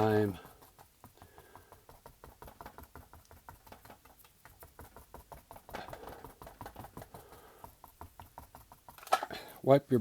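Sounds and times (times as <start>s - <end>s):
paintbrush scrubbing: 0.0s - 10.0s
paintbrush tapping: 0.0s - 10.0s.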